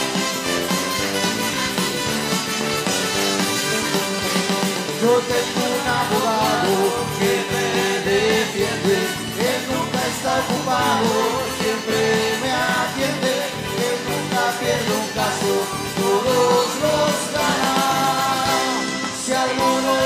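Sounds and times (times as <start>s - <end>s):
person singing with instruments: 2.1s - 20.0s.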